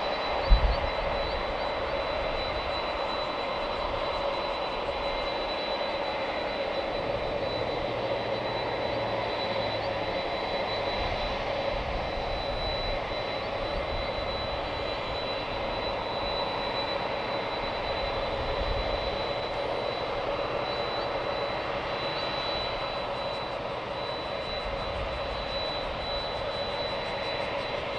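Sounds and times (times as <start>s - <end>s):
jet engines idling: 0.0s - 27.9s.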